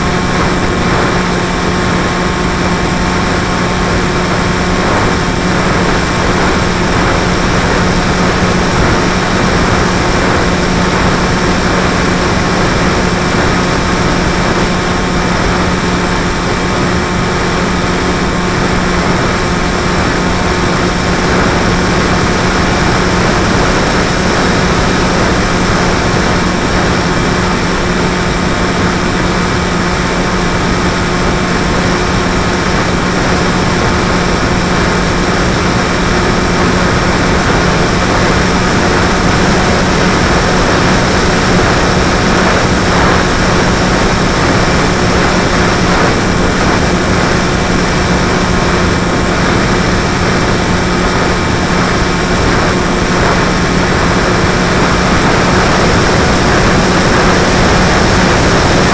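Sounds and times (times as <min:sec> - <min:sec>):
model aircraft motor hum: 0:00.0 - 0:58.9
propeller rushing noise: 0:00.0 - 0:58.9.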